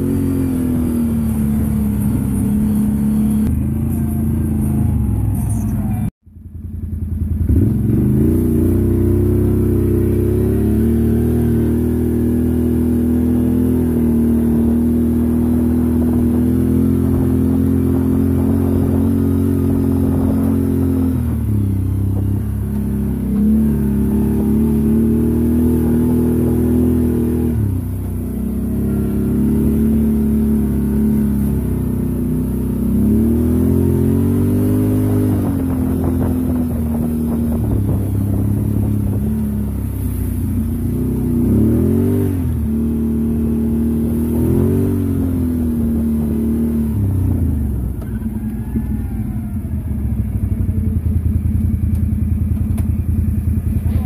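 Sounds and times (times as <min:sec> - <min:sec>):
atv engine: 0:00.0 - 0:54.0.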